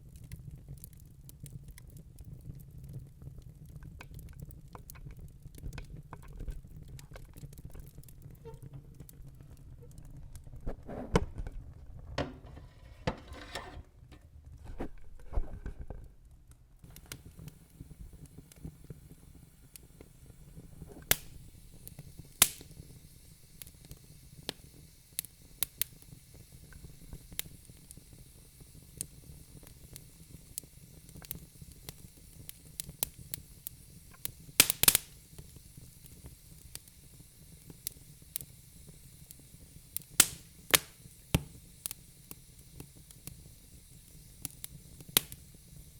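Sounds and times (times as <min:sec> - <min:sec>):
fire popping: 0:00.0 - 0:45.9
log fire crackling: 0:00.0 - 0:45.9
low rumble and hiss of fire: 0:00.0 - 0:45.9.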